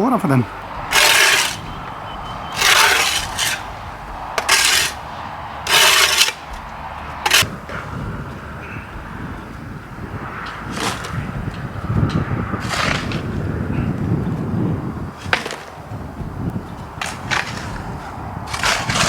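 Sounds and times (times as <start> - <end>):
dirt scraping: 0.0 - 19.0.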